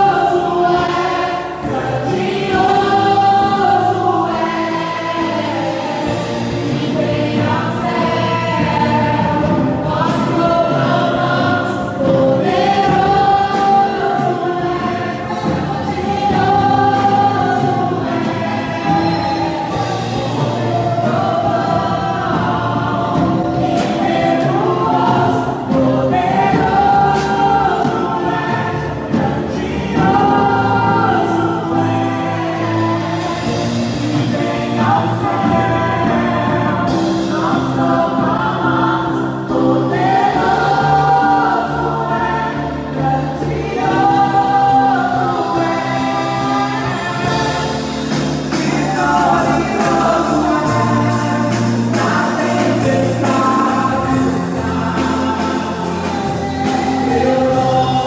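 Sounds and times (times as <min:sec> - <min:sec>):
congregation singing: 0:00.0 - 0:58.0
instrumental backing: 0:00.0 - 0:58.0.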